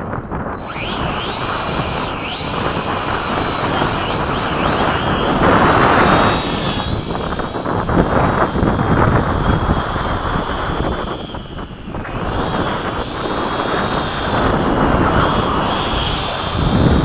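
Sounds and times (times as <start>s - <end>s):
electric motors and propellers whining: 0.0s - 17.0s
wind noise on microphone: 0.0s - 17.0s.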